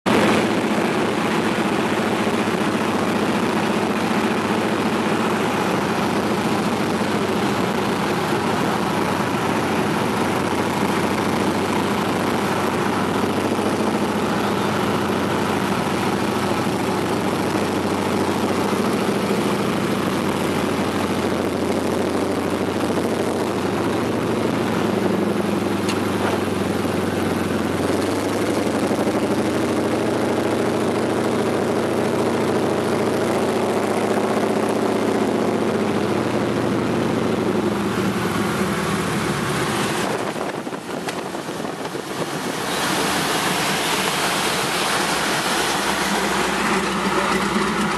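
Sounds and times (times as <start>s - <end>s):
plane engine and propeller droning: 0.1s - 47.9s
water rushing and spraying: 0.2s - 31.5s, 37.6s - 47.9s.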